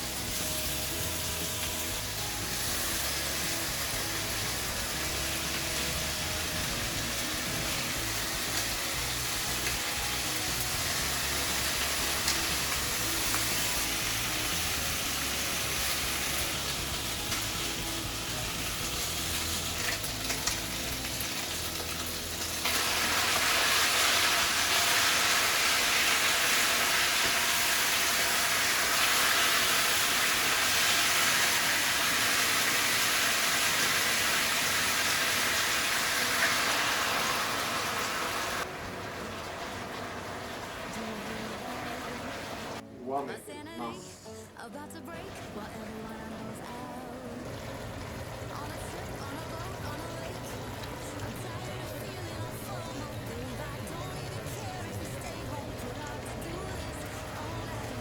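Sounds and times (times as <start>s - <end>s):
food sizzling in hot oil: 0.0s - 42.8s, 47.4s - 58.0s.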